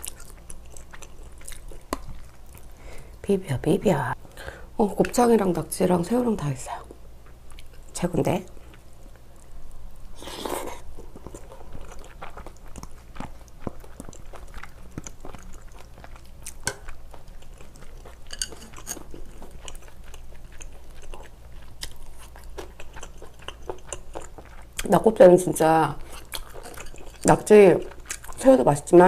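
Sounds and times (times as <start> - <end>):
wet chewing with crunches: 0.0 - 2.8, 7.2 - 25.2, 26.0 - 28.5.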